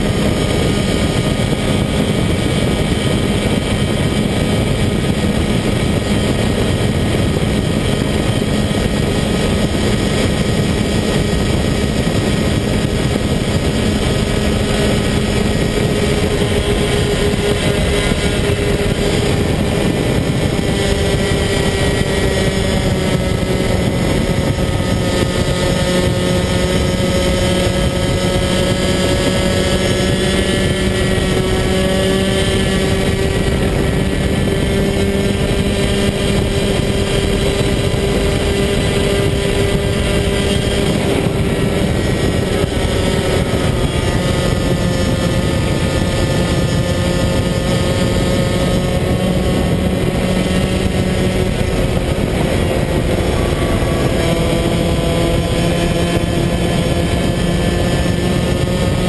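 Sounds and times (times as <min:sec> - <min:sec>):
two-stroke kart engine at high revs: 0:00.0 - 0:59.0.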